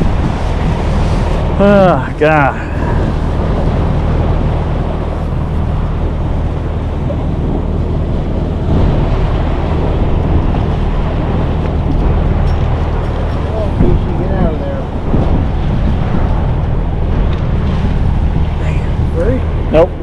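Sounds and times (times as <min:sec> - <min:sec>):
boat motor idling: 0:00.0 - 0:20.0
wind on microphone: 0:00.0 - 0:20.0.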